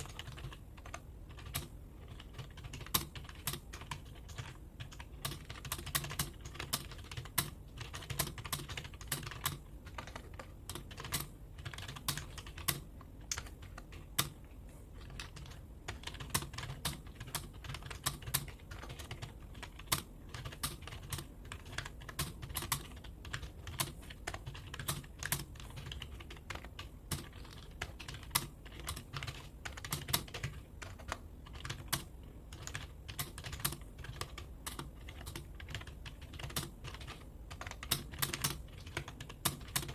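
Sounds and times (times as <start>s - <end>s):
keyboard typing: 0.0s - 39.9s
low steady hum: 0.0s - 39.9s.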